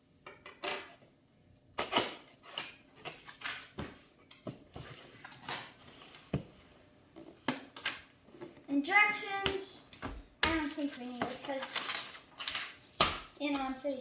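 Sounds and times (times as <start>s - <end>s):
rustling and scraping of handling: 2.3s - 14.0s.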